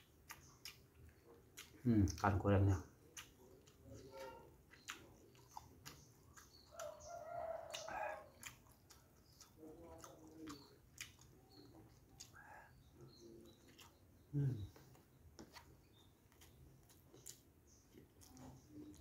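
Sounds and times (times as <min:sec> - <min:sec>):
chewing and lip-smacking: 0:00.0 - 0:19.0.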